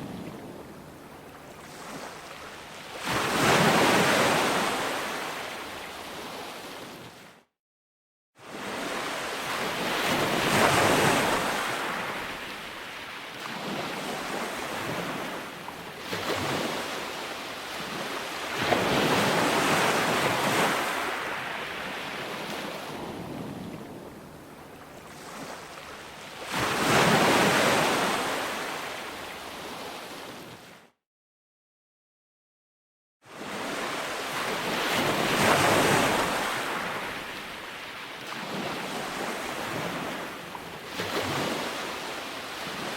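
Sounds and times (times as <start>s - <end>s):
ocean waves breaking on beach: 0.0s - 7.4s, 8.4s - 30.9s, 33.3s - 42.9s.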